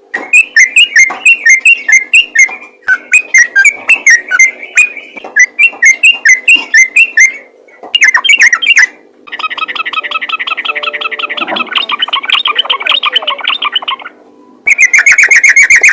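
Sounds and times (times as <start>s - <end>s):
bird bubbly chirping song: 0.3s - 15.9s.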